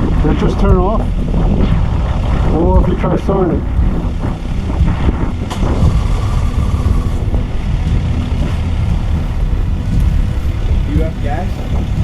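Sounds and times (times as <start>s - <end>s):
engine rumble: 0.0s - 12.0s
wind buffeting microphone: 0.0s - 12.0s.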